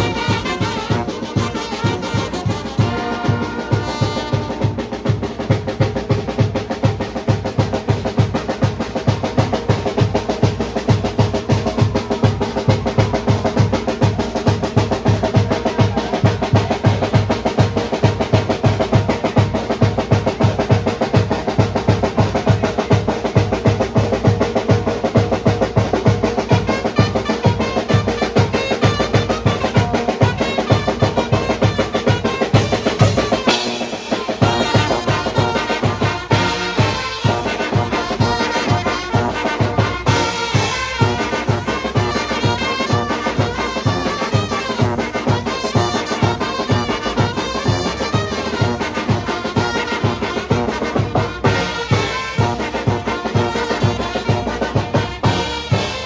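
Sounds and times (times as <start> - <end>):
brass band playing held notes: 0.0 - 56.0
fast steady drumming: 0.0 - 56.0.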